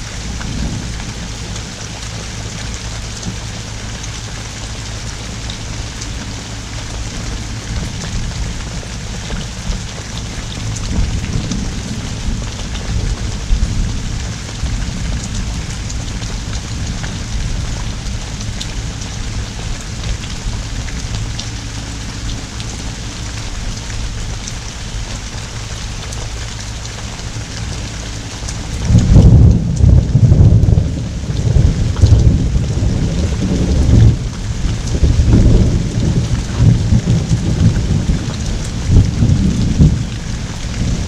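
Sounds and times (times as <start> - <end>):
heavy rain pouring: 0.0 - 41.0
low rumble: 0.0 - 41.0
raindrops ticking on surface: 0.0 - 41.0.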